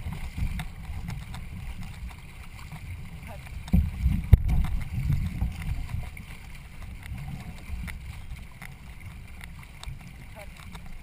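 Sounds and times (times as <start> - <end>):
paddle ticks in water: 0.0 - 11.0
wind rumbling on microphone: 0.0 - 11.0.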